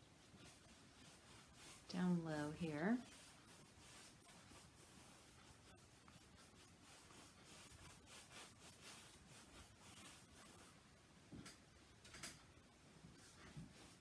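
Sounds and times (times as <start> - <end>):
paintbrush swishing on canvas: 0.1 - 10.8, 13.1 - 14.0.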